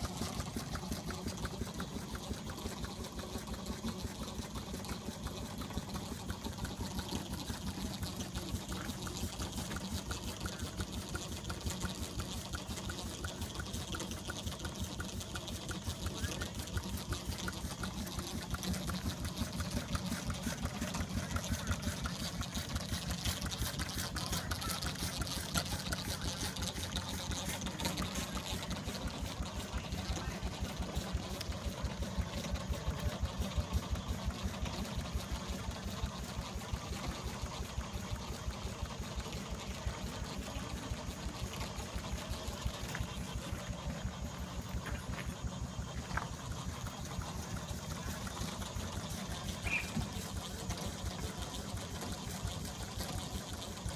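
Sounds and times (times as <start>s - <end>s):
steam engine running: 0.0s - 53.9s.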